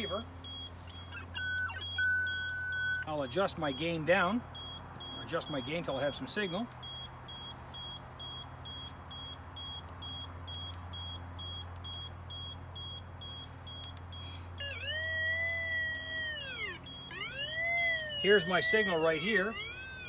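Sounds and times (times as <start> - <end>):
cable locator beeping: 0.0 - 20.0.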